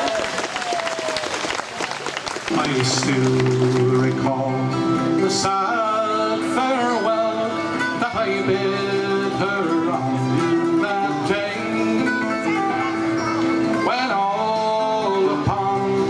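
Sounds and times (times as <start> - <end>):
acoustic guitar: 2.4 - 16.0
man singing folk song: 2.5 - 16.0.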